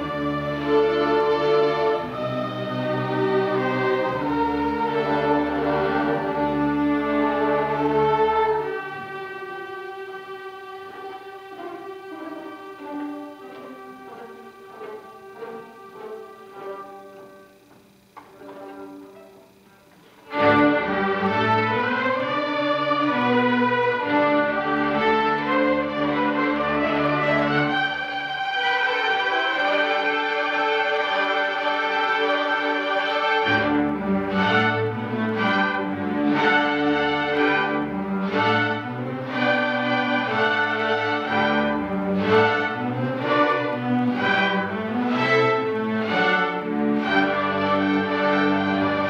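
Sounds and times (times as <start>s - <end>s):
string orchestra bowed chords: 0.0s - 49.0s.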